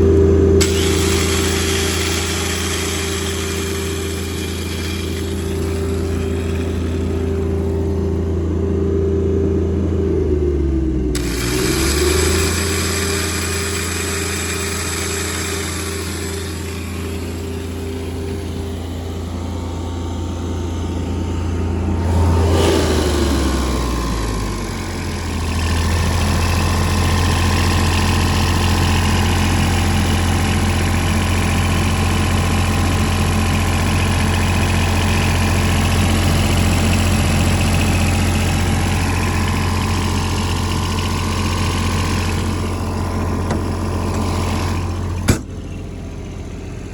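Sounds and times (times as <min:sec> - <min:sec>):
diesel generator running: 0:00.0 - 0:46.9.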